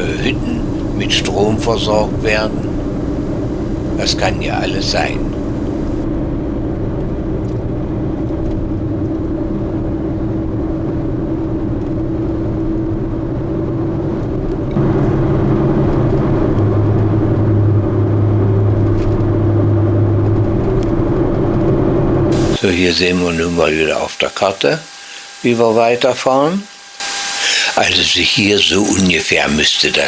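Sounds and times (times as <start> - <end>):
car engine and tyres drone: 0.0 - 30.0
deep steady hum: 0.0 - 30.0.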